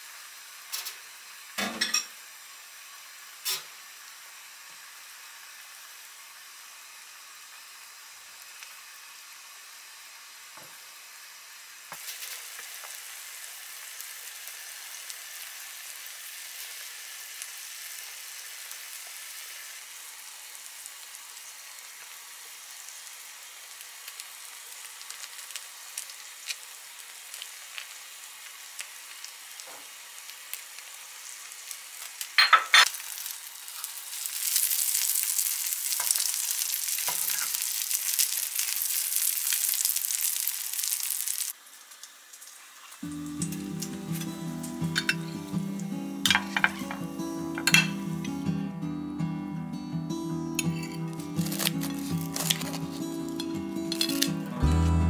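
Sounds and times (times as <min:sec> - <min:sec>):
food sizzling in a frying pan: 0:00.0 - 0:48.8, 0:50.1 - 0:55.0.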